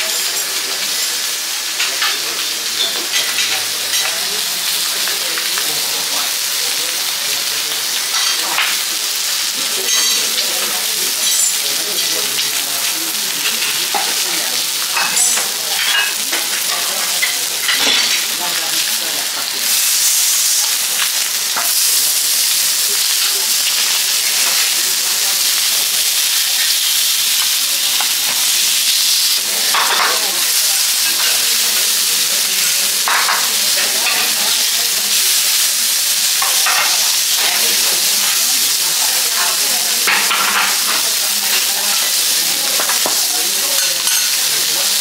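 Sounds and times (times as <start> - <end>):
fish sizzling on a griddle: 0.0 - 45.0.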